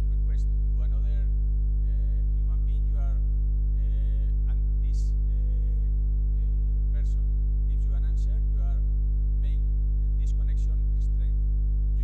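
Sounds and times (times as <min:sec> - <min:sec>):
loud electrical mains hum: 0:00.0 - 0:12.0.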